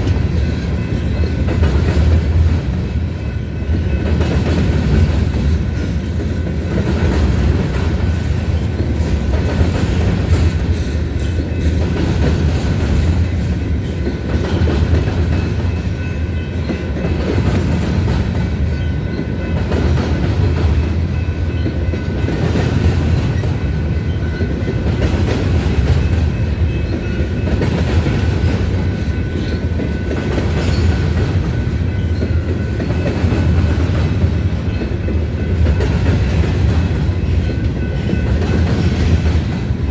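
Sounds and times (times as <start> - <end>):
clickety-clack over rail joints: 0.0 - 39.9
freight train wheels rumbling on rail: 0.0 - 39.9.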